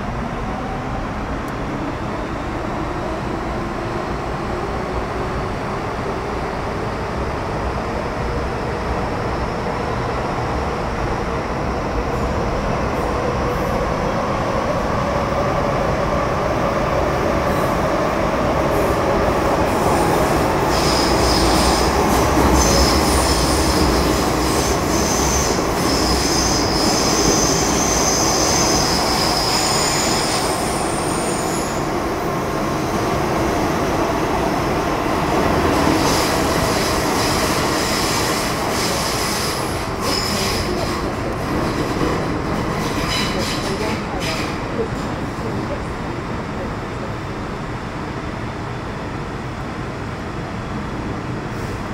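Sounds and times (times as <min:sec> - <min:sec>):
train wheel-on-rail rumble: 0:00.0 - 0:51.9.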